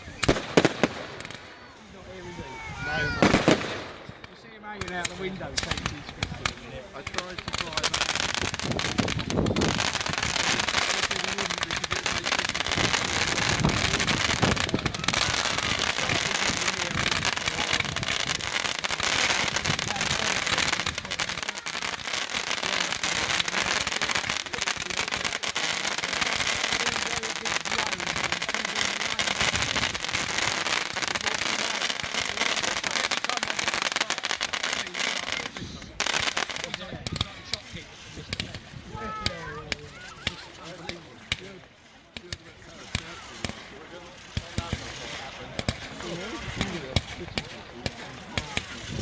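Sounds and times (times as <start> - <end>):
fireworks popping and cracking: 0.0 - 49.0.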